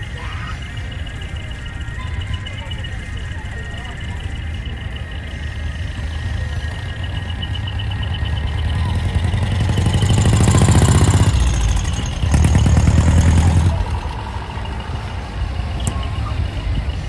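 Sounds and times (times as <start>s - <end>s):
diesel truck passing by: 0.0s - 17.0s.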